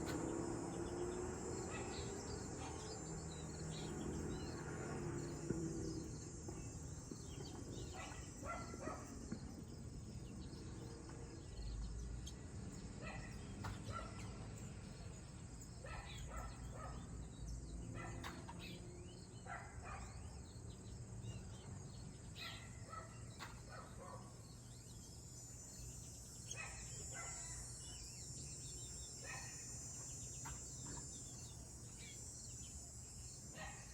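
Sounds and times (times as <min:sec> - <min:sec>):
bird chirping: 0:00.0 - 0:33.9.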